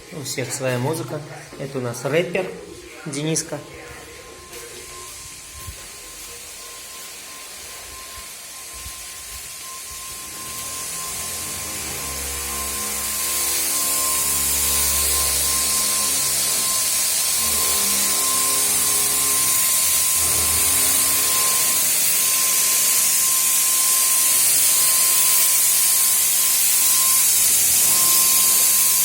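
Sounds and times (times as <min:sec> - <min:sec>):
thin steady whine: 0:00.0 - 0:29.0
paint sprayer hissing: 0:04.5 - 0:29.0.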